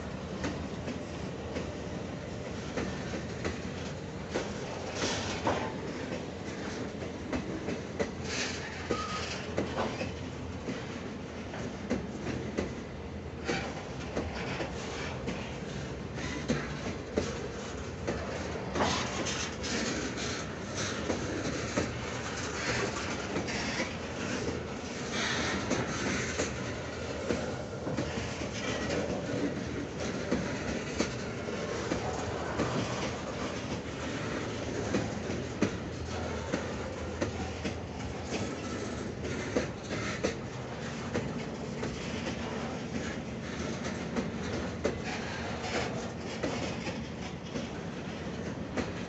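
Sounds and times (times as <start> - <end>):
freight train wagons rumbling: 0.0 - 49.0.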